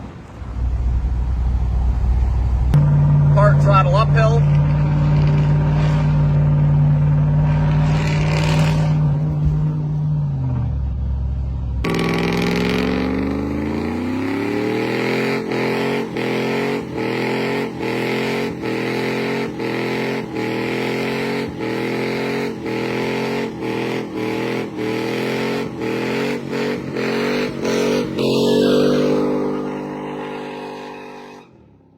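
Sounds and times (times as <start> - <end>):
pickup engine exhaust: 0.0 - 31.7.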